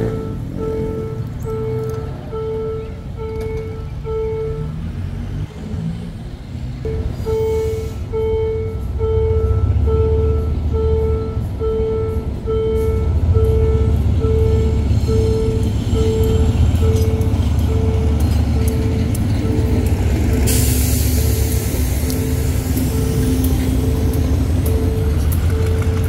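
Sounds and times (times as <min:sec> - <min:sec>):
level crossing alarm beeping: 0:00.0 - 0:05.0, 0:06.8 - 0:26.0
low engine rumble: 0:00.0 - 0:26.0.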